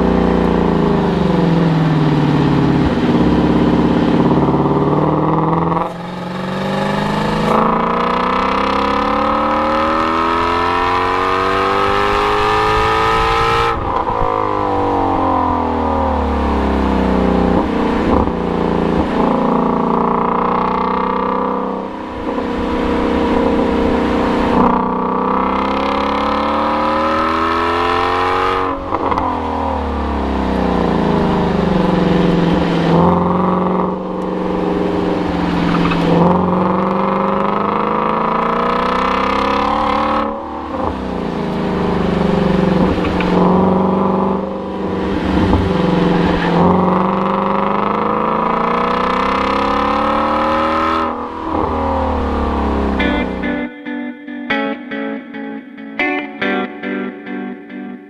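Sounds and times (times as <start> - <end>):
car engine revving: 0.0 - 54.6.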